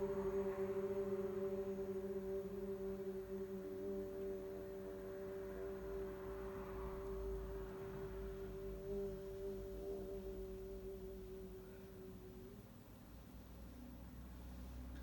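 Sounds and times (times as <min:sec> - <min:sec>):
person singing sustained vowel: 0:00.0 - 0:12.6.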